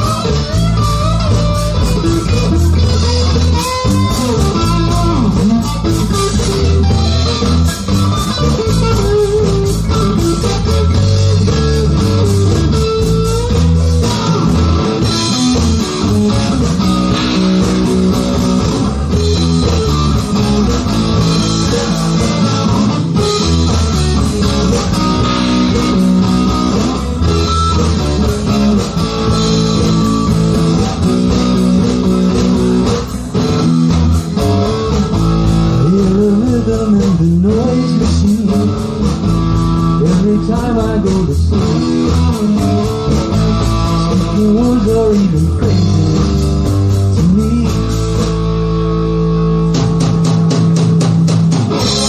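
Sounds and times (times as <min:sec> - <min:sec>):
bass guitar: 0:00.0 - 0:52.0
drums: 0:00.0 - 0:52.0
electric guitar: 0:00.0 - 0:52.0.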